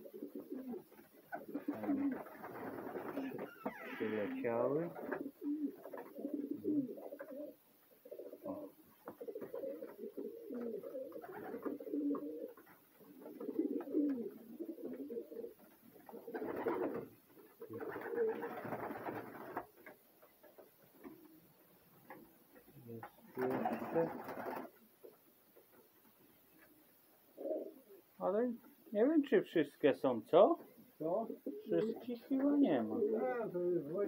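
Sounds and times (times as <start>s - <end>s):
pigeons cooing: 0.0s - 25.2s, 26.6s - 28.1s, 31.2s - 34.0s.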